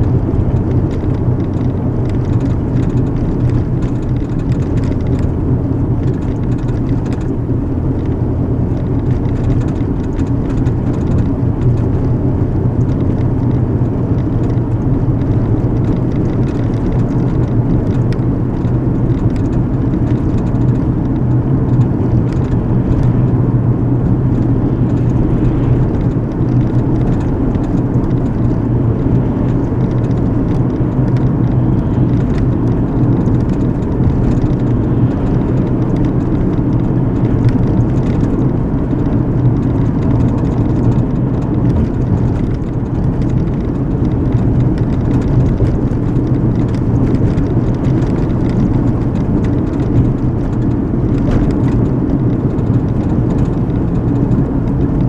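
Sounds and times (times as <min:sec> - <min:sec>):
car road noise and engine rumble: 0:00.0 - 0:55.0.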